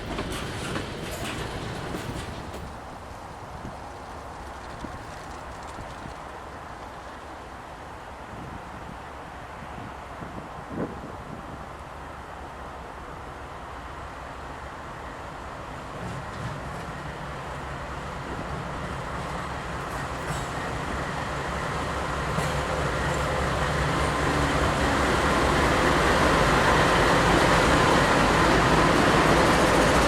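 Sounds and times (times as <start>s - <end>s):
locomotive engine hum: 0.0s - 30.0s
rail noise: 0.0s - 30.0s.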